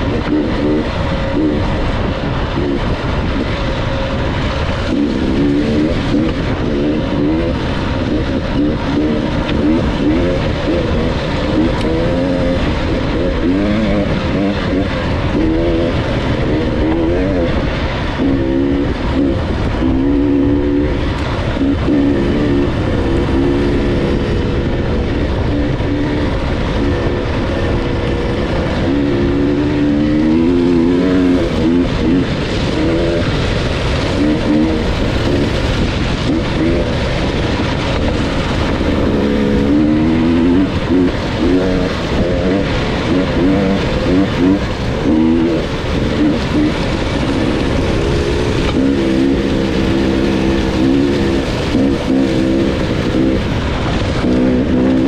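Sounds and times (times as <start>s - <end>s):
dirt bike engine revving: 0.0s - 55.0s
steady rush of noise: 0.0s - 55.0s.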